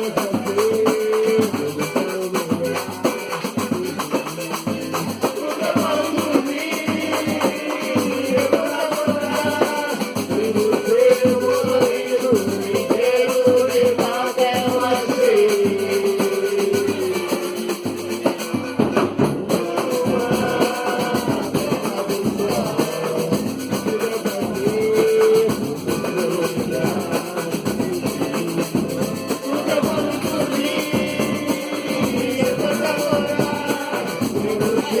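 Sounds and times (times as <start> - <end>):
band playing music: 0.0 - 35.0
drum kit: 0.0 - 35.0
guitar: 0.0 - 35.0
person singing: 0.0 - 35.0.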